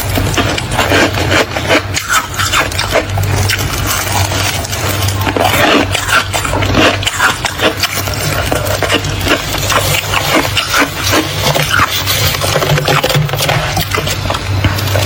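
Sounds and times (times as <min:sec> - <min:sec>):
frost being chewed: 0:00.0 - 0:15.0
steady low hum: 0:00.0 - 0:15.0.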